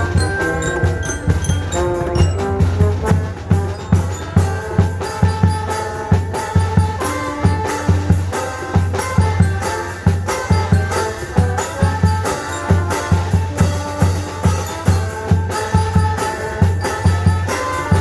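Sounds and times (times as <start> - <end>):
music melody: 0.0 - 18.0
steady drum beat: 0.0 - 18.0.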